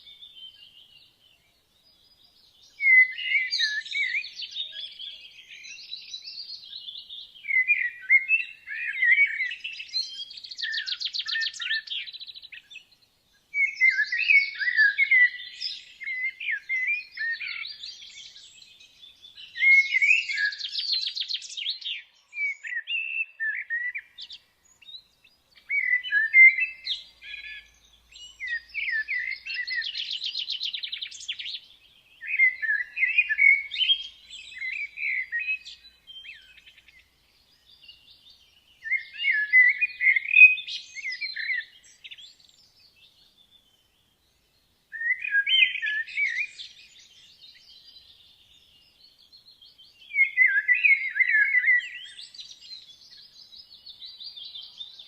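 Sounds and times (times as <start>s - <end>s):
songbird singing trills: 0.0s - 55.0s.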